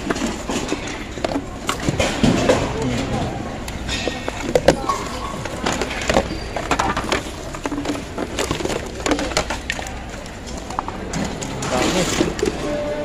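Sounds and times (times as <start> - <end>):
plastic objects clattering: 0.0 - 13.0.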